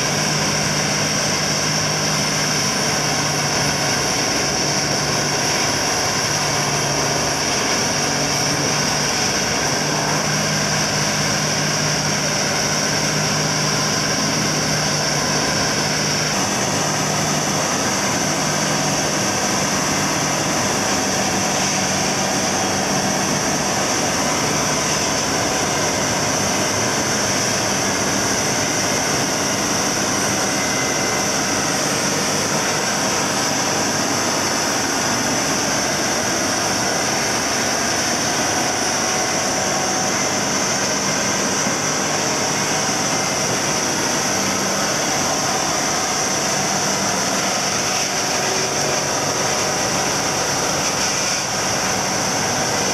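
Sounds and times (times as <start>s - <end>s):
heavy engine drone: 0.0s - 52.9s.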